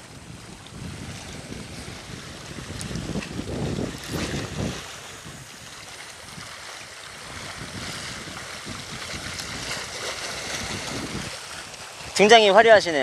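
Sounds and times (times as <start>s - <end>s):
rush of wind: 0.0s - 13.0s
sea waves: 0.0s - 13.0s
wind buffeting microphone: 0.0s - 13.0s.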